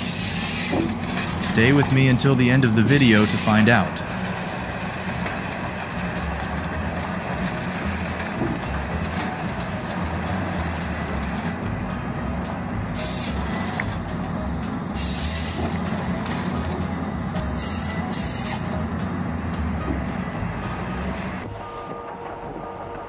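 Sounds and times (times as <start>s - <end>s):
harvester head processing log: 0.0s - 21.5s
excavator diesel engine running: 0.0s - 22.3s.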